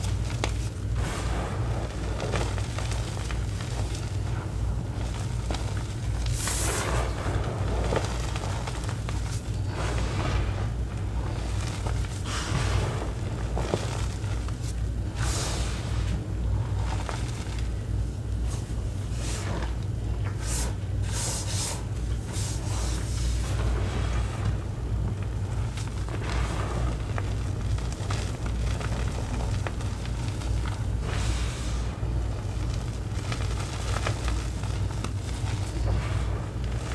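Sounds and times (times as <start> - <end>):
powder crunching and swishing: 0.0 - 36.9
steady low hum: 0.0 - 36.9.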